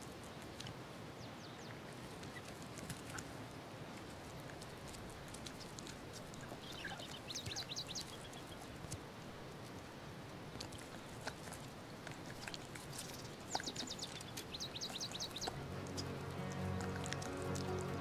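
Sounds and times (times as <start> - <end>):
soft outdoor hiss: 0.0 - 18.0
animal chewing dry stems: 1.8 - 18.0.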